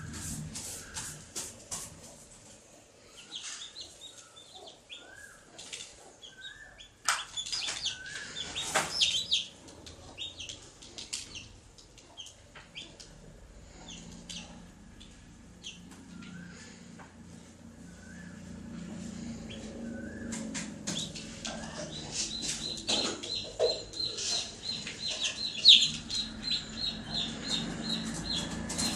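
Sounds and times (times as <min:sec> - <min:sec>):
chicks peeping: 0:00.1 - 0:28.9.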